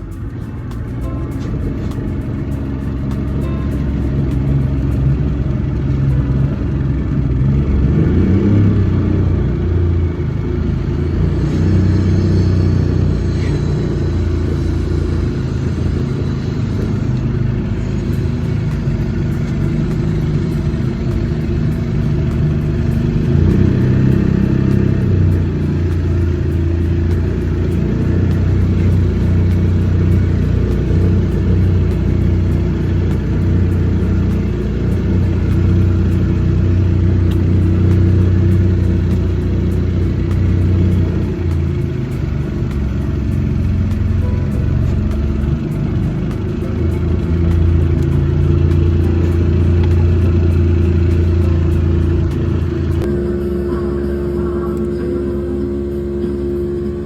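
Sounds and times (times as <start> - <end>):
outboard motor droning: 0.0 - 57.0.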